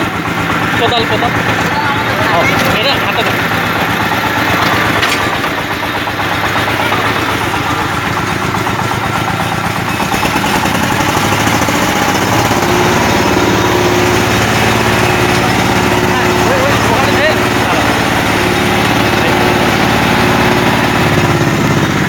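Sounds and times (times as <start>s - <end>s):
combine harvester engine running: 0.0s - 22.0s
higher engine tone: 0.0s - 22.0s.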